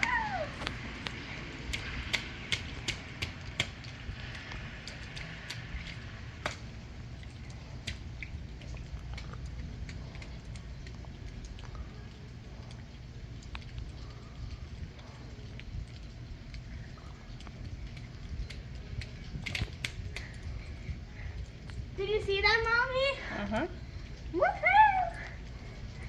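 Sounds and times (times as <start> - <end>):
raindrops tapping and dripping: 0.0 - 26.0
steady low rumble: 0.0 - 26.0.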